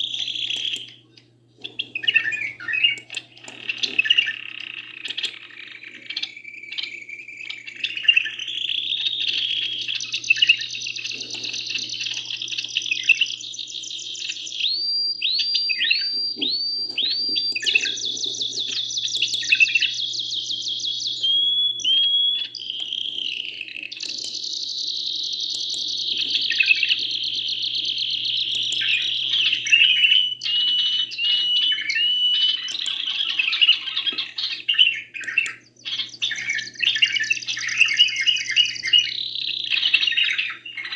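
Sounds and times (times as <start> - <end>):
birds singing rattling rolls: 0.0 - 14.4, 15.8 - 40.9
bird whistles dropping in pitch: 6.1 - 40.9.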